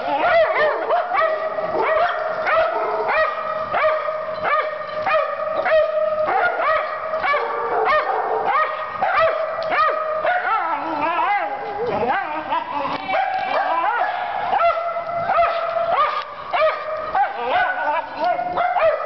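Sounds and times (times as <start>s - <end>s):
dogs whining and howling: 0.0s - 19.0s
dogs yipping and barking: 0.0s - 19.0s.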